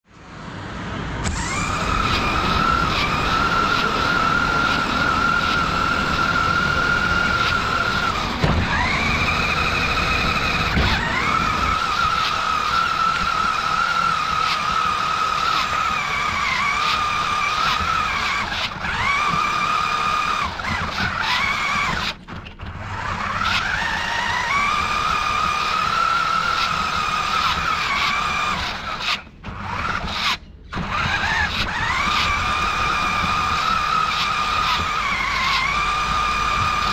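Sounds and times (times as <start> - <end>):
tyres rumbling on ground: 0.2 - 36.9
toy truck electric motor whining: 1.2 - 36.9.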